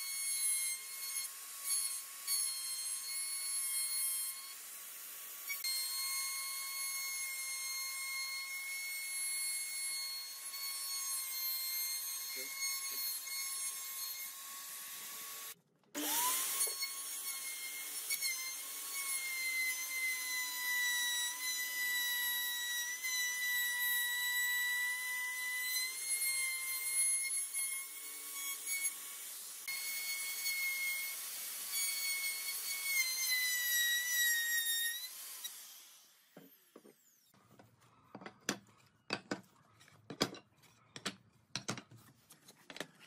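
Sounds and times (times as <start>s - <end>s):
electric router cutting wood: 0.0s - 37.2s.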